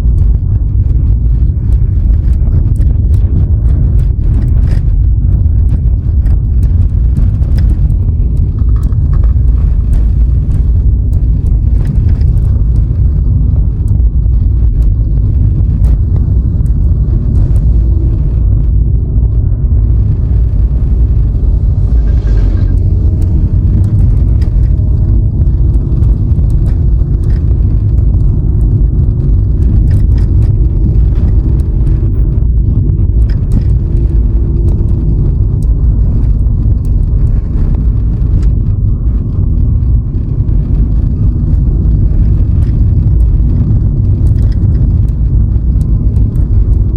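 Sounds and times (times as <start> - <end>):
road and wind noise rumble: 0.0 - 46.9.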